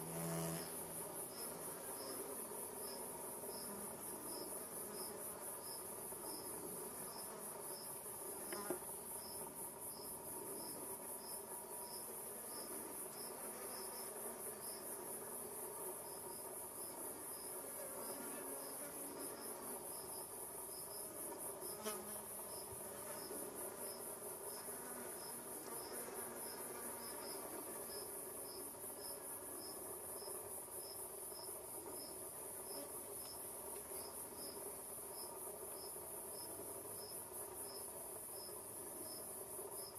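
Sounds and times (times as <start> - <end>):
flies buzzing: 0.0 - 38.6
insects chirring: 0.0 - 39.9.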